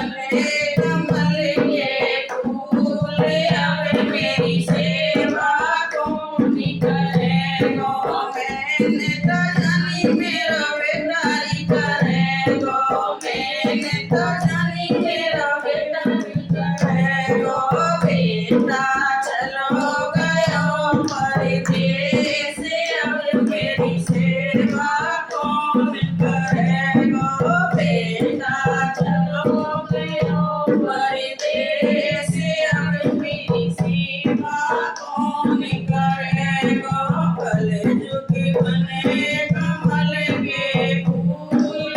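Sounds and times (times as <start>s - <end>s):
percussion: 0.0s - 41.9s.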